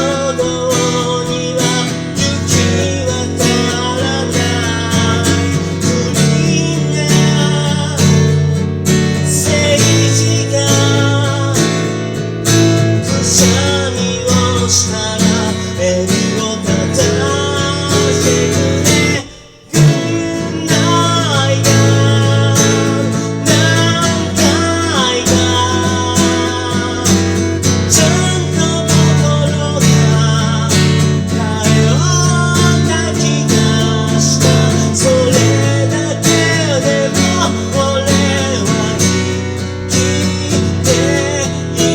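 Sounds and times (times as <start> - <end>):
acoustic guitar strumming: 0.0 - 41.9
person singing: 0.0 - 41.9.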